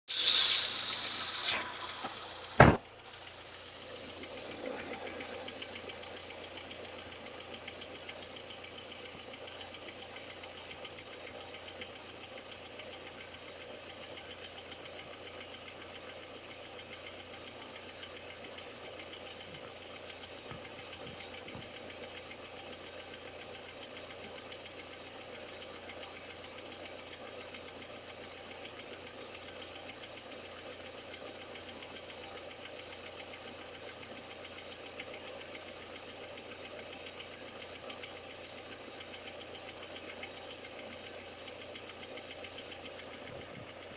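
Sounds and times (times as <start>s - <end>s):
car engine idling with knock: 0.3s - 43.9s.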